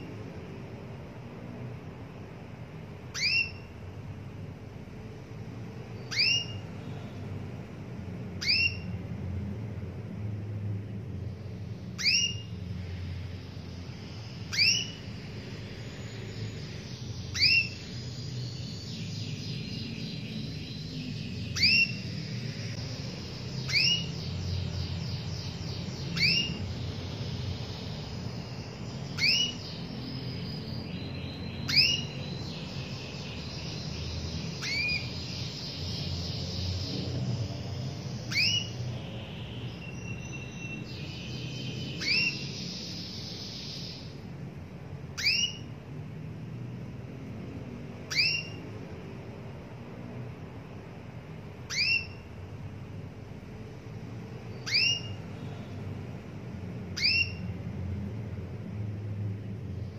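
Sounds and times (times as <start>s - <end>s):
canary chirping: 0.0s - 58.7s
canary trills: 0.0s - 58.7s.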